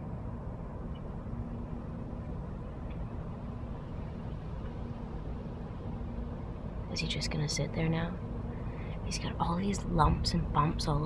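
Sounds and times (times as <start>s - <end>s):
faint steady hum: 0.0s - 11.0s
low background rumble: 0.0s - 11.0s.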